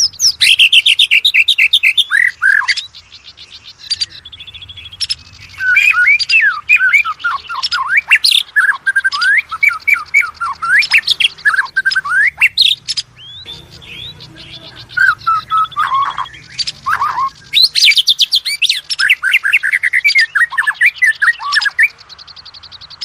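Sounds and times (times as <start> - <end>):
songbird singing whistled notes: 0.0 - 23.0.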